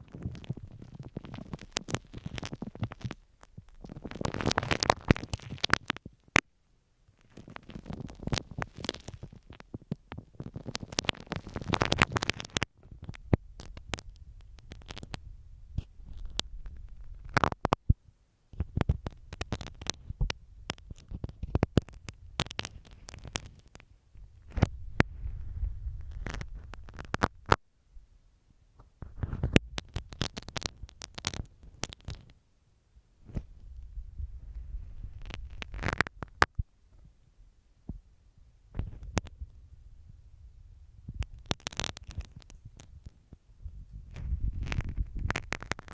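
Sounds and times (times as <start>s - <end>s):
rubbing tape on a microphone: 0.0s - 6.4s, 7.1s - 17.9s, 18.5s - 27.6s, 28.9s - 32.4s, 33.2s - 36.7s, 38.7s - 39.8s, 41.0s - 45.9s.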